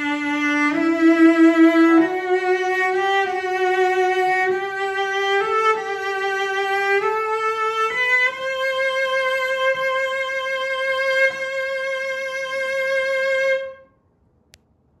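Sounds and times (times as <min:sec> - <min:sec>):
bowed cello notes: 0:00.0 - 0:13.9.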